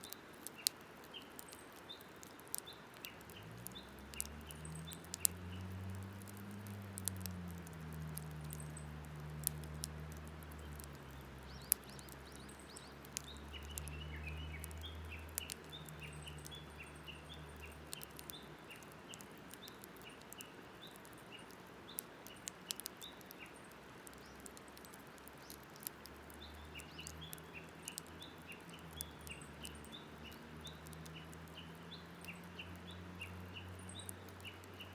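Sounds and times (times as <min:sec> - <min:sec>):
campfire crackling and popping: 0:00.0 - 0:34.9
small birds chirping: 0:00.0 - 0:34.9.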